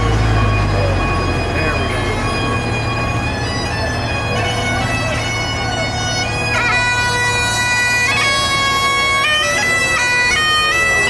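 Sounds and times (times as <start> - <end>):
bagpipes playing a tune: 0.0 - 11.0.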